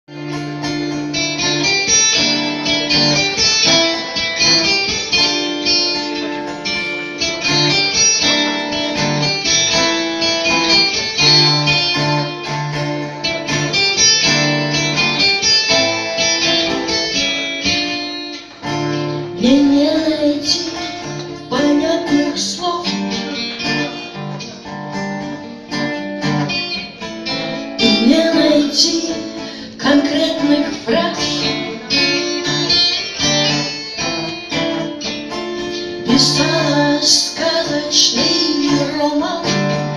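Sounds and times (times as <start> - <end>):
strummed and picked guitars: 0.0 - 39.9
live rock band playing: 0.1 - 39.9.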